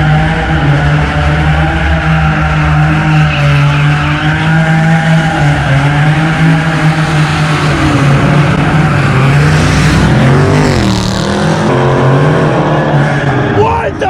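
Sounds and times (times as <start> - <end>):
car engines revving hard: 0.0 - 14.0
tire noise: 0.0 - 14.0.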